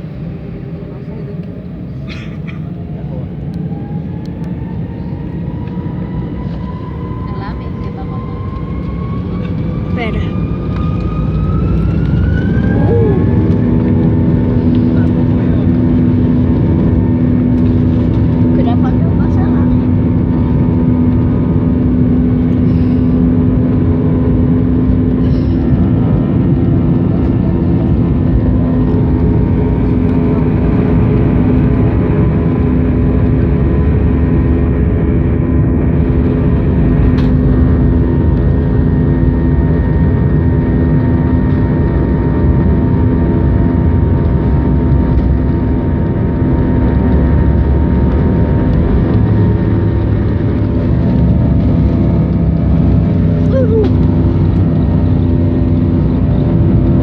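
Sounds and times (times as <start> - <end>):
jet engines roaring in cabin: 0.0 - 57.0.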